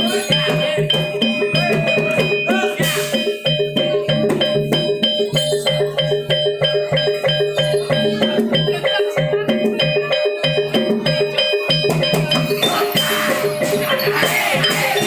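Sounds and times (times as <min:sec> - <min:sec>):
metallophones playing: 0:00.0 - 0:15.0.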